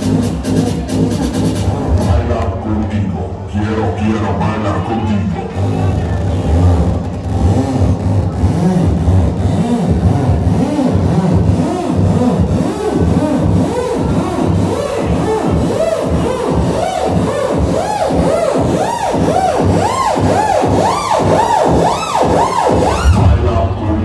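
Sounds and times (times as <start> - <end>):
electronic dance music: 0.0 - 24.0
swooping synth sweeps: 4.1 - 24.0.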